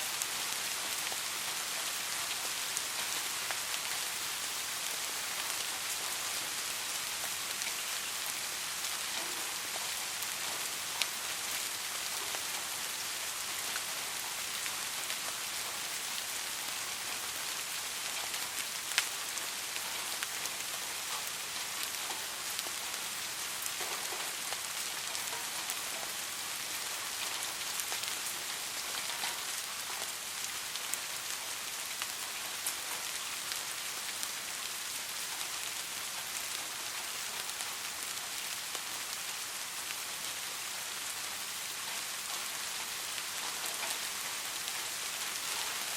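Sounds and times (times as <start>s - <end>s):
soft rain hiss: 0.0s - 45.9s.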